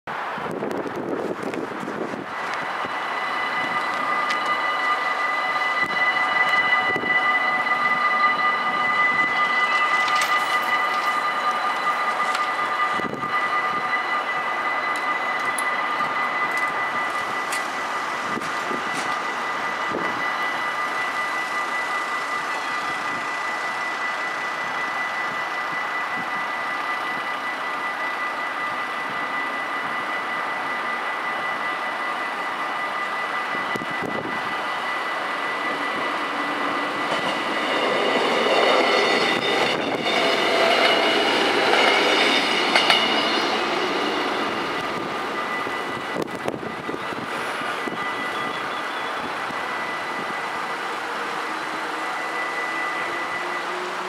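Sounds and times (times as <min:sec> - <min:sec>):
diesel train approaching: 0:00.1 - 0:54.0
level-crossing warning bells: 0:00.4 - 0:54.0.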